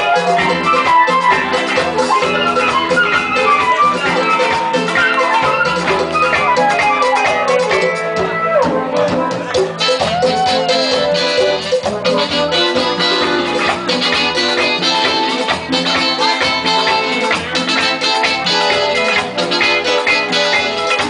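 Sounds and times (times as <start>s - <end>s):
congas: 0.0s - 21.0s
guitar: 0.0s - 21.0s.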